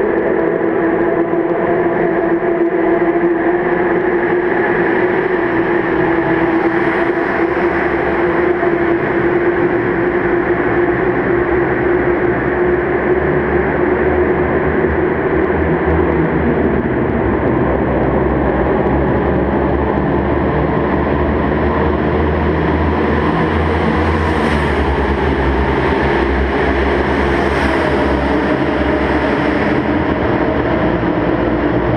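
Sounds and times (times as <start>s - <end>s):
motorcycle engine drone: 0.0s - 31.9s
road and wind noise: 0.0s - 31.9s.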